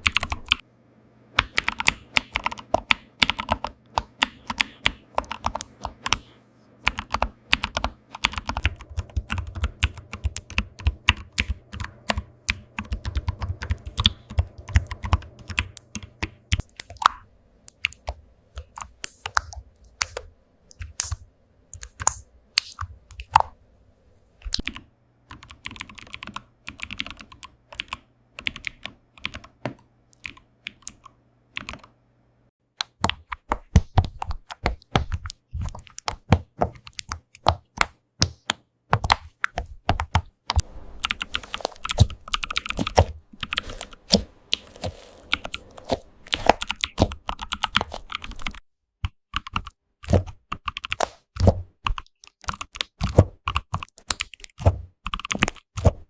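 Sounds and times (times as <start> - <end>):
keyboard typing: 0.0 - 0.6, 1.4 - 23.6, 24.4 - 32.0, 32.8 - 55.9.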